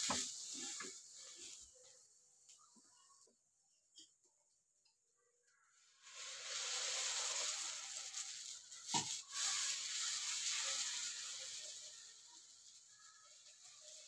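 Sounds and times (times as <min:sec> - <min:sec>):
hot pan sizzling: 0:00.0 - 0:03.1, 0:05.6 - 0:14.0.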